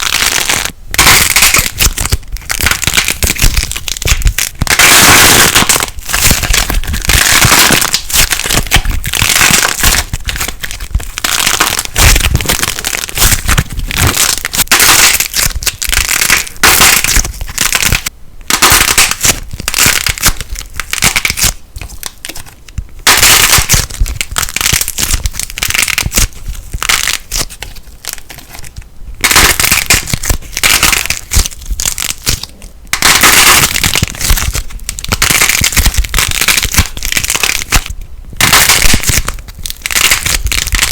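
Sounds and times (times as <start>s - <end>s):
slime crackling and popping: 0.0s - 40.9s.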